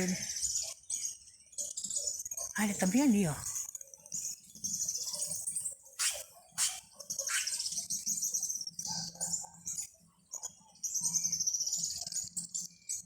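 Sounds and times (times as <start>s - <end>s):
songbirds trilling and chirping: 0.0s - 13.0s.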